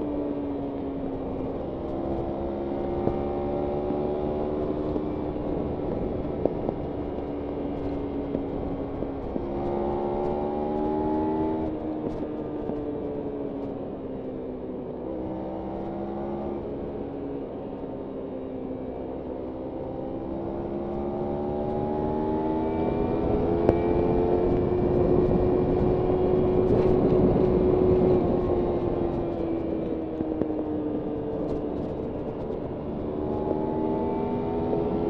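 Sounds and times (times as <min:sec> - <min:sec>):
wind noise: 0:00.0 - 0:14.0, 0:19.8 - 0:35.0
motorcycle engine accelerating: 0:00.0 - 0:35.0.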